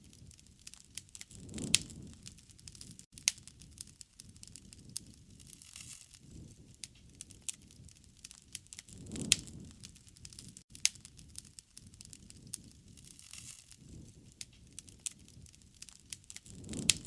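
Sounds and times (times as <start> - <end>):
low rush of flames: 0.0 - 17.0
wood fire crackling: 0.0 - 17.0.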